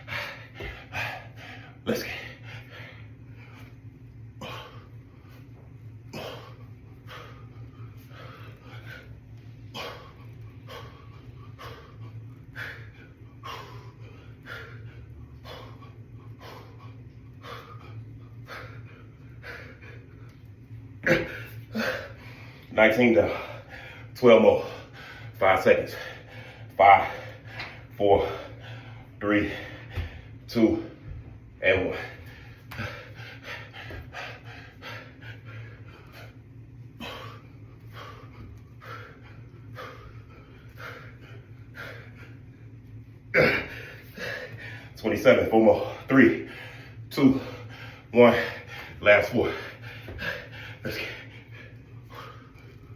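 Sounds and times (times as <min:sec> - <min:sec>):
man panting: 0:00.0 - 0:42.8, 0:43.4 - 0:52.9.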